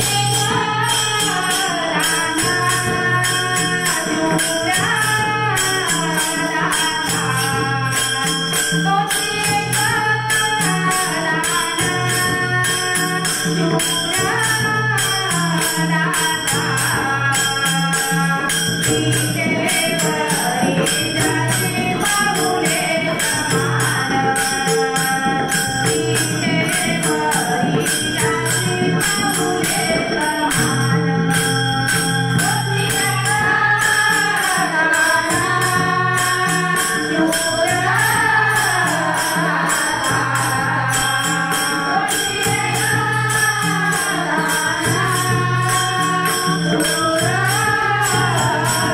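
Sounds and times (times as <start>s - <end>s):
hand cymbals jingling: 0.0s - 48.9s
voices singing devotional song: 0.0s - 48.9s.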